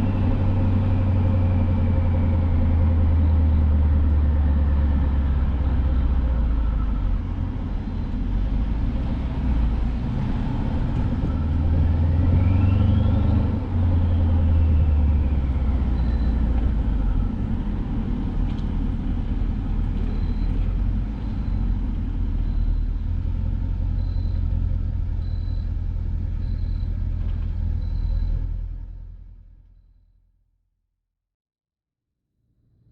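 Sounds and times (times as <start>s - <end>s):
car exhaust deep rumble: 0.0s - 30.3s.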